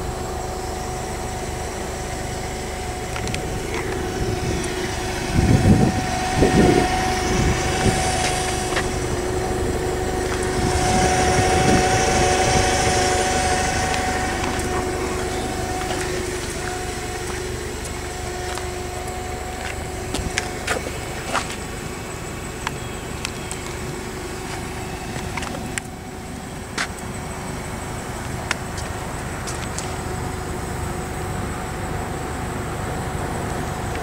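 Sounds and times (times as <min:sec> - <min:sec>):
machine hum with held tones: 0:00.0 - 0:34.0.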